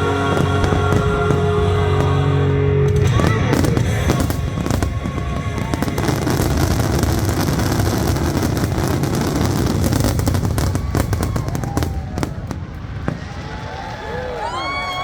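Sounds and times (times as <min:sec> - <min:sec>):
fireworks bursts and crackle: 0:00.0 - 0:15.0.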